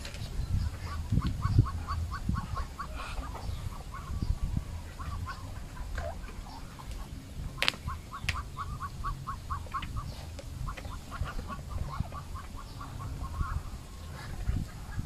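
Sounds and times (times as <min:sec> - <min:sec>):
ducks chirping: 0:00.0 - 0:15.0.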